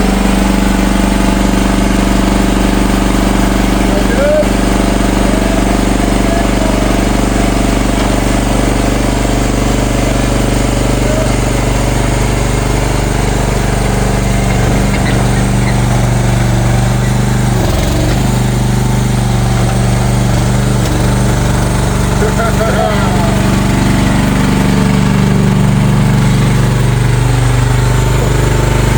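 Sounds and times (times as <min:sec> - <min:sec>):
mini excavator engine running: 0:00.0 - 0:28.9.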